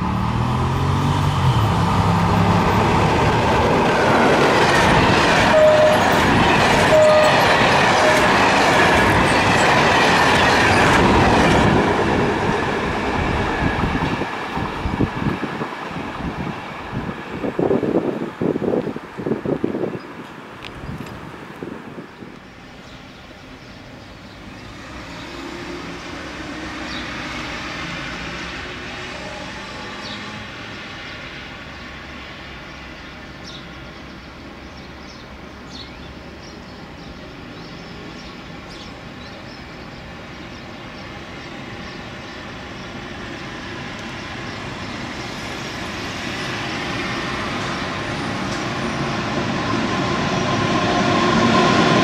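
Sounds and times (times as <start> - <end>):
freight train passing: 0.0 - 52.0.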